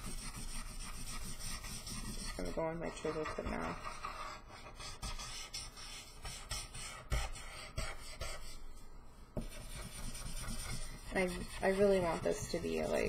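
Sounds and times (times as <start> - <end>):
marker rubbing on paper: 0.0 - 8.7, 9.4 - 13.0.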